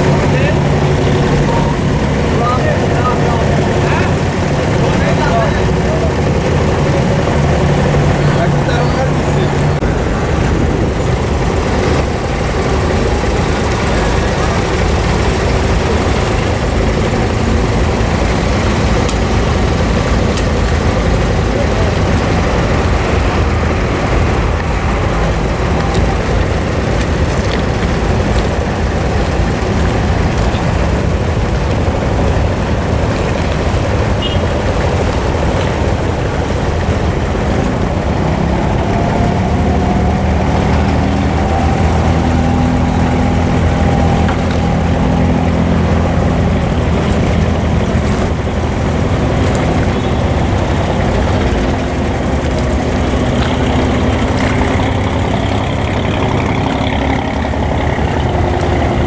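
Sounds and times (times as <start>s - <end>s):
diesel boat engine running: 0.0s - 59.0s.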